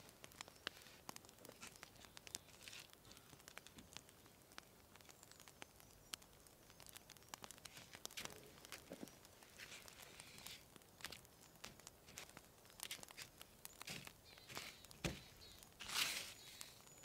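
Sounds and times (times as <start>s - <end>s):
soft crinkles: 0.0s - 17.0s.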